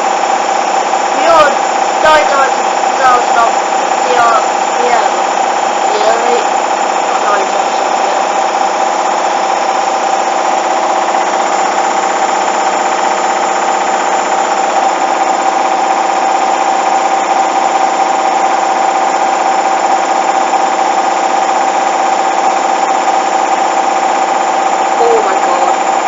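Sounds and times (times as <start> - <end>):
washing machine spinning whine: 0.0 - 26.0.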